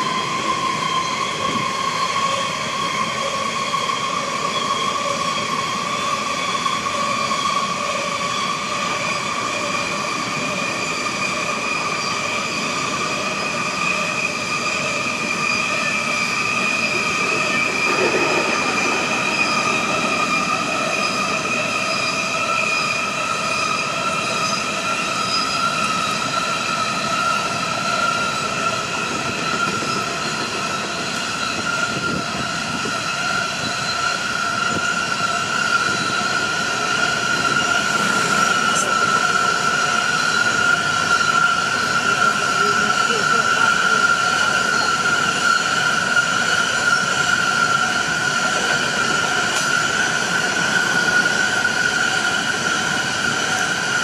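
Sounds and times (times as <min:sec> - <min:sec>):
train rumble: 0:00.0 - 0:54.0
train wheels squealing on rails: 0:00.0 - 0:54.0.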